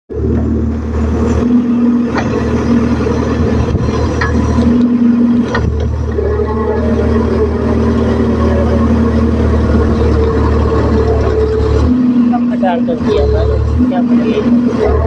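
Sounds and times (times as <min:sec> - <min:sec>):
diesel engine running: 0:00.1 - 0:15.0.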